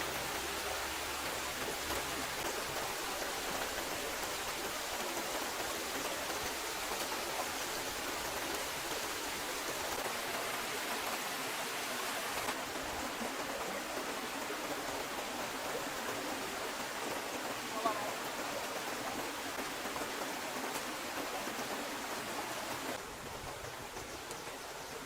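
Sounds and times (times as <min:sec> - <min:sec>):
rushing water: 0:00.0 - 0:25.0.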